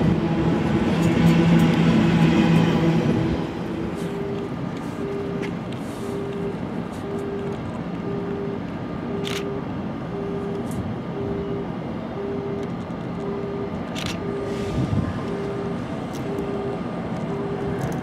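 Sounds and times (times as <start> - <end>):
rail yard noise: 0.0 - 18.0.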